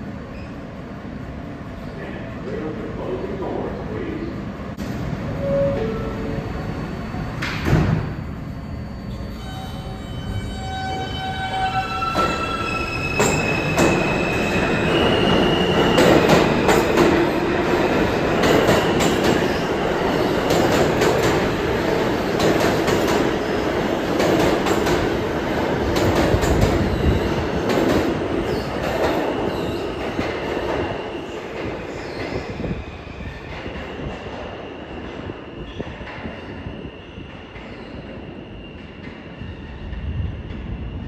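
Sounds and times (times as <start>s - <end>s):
subway train passing: 0.0s - 41.0s.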